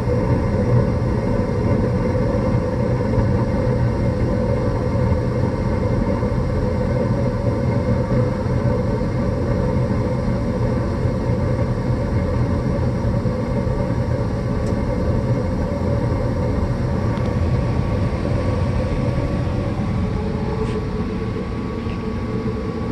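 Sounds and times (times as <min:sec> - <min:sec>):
furnace rumbling and humming: 0:00.0 - 0:22.9.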